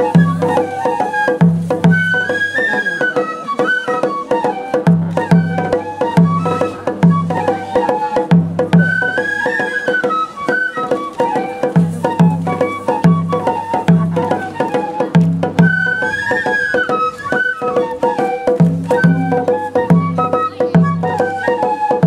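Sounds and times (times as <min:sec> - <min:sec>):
bamboo flutes playing melody: 0:00.0 - 0:22.0
taiko drum strokes: 0:00.0 - 0:22.0.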